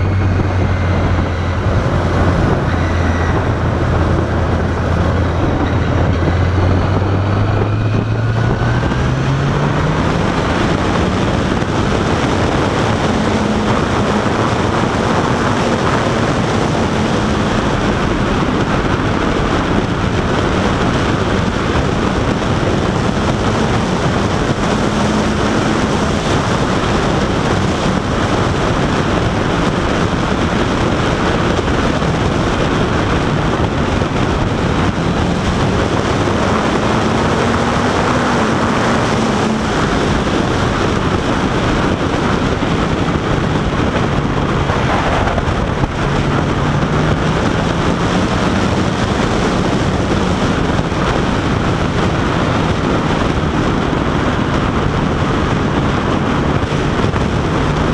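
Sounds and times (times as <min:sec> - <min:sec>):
motorcycle engine revving: 0:00.0 - 0:57.9
wind rushing over microphone: 0:00.0 - 0:57.9.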